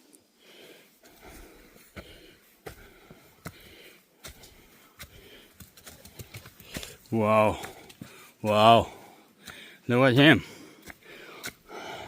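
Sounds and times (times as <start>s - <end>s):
person breathing hard: 0.2s - 12.0s
footsteps on trail: 0.5s - 12.0s.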